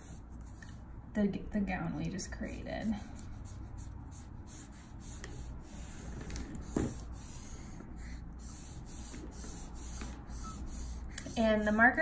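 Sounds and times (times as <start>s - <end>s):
marker rubbing on paper: 0.0s - 0.8s, 2.8s - 12.0s.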